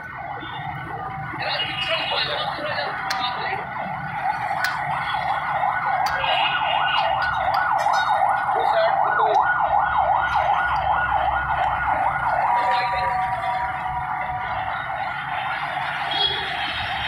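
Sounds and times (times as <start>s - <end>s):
electronic siren wailing: 0.0s - 17.0s.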